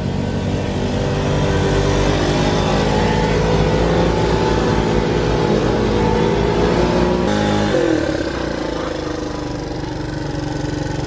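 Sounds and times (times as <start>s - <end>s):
moped engines running: 0.0s - 11.0s
scooter passing close: 0.0s - 11.0s.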